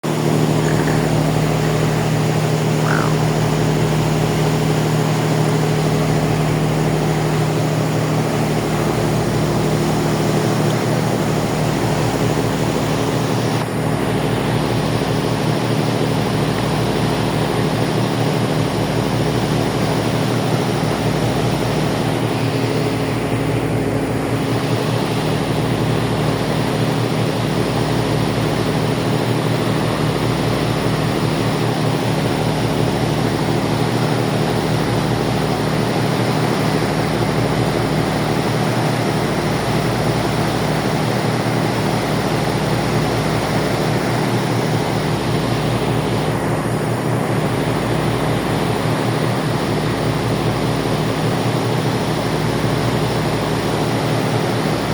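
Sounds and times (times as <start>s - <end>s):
ferry engines droning: 0.0s - 54.9s.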